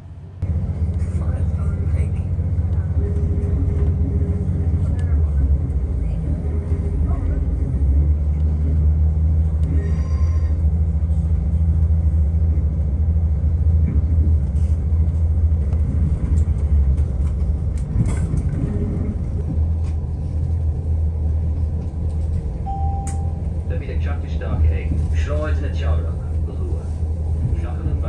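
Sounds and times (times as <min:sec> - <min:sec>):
train engine rumble: 0:00.0 - 0:28.0.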